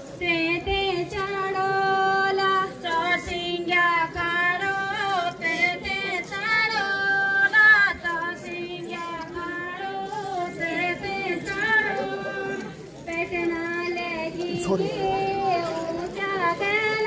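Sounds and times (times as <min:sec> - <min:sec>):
women singing folk song: 0:00.0 - 0:17.0.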